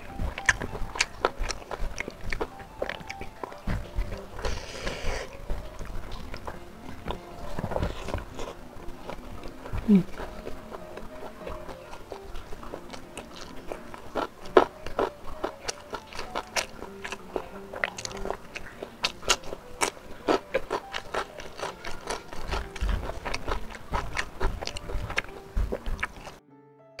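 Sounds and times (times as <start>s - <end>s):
person chewing and crunching: 0.0s - 26.4s.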